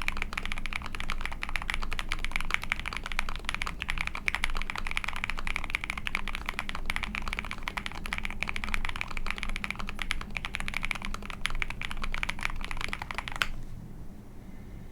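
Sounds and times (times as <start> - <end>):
fast mechanical keyboard typing: 0.0 - 13.6.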